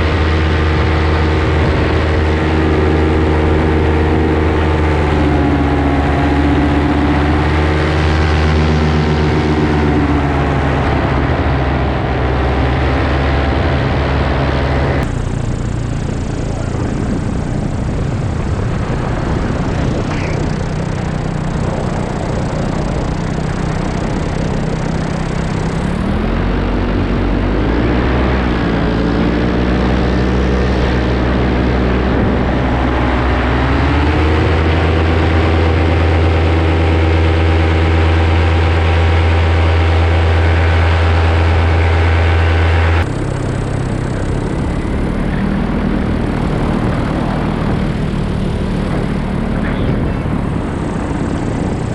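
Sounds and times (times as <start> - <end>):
paramotor engine and propeller: 0.0 - 51.9.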